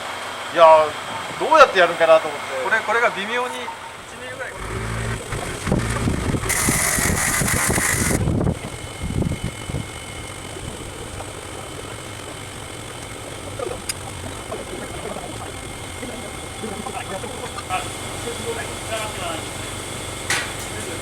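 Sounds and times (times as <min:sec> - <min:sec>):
engine idling: 0:03.9 - 0:21.0
loud hissing mechanical noise: 0:04.0 - 0:21.0.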